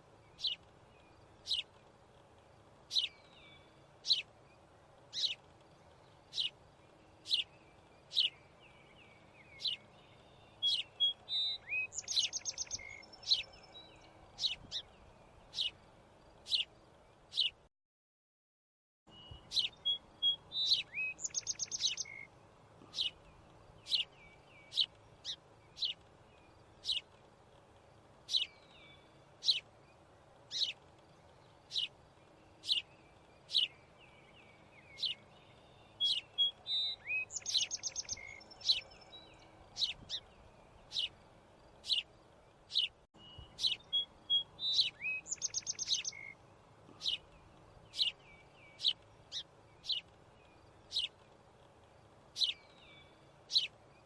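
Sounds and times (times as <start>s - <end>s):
small birds chirping: 0.0s - 17.7s, 19.1s - 54.0s.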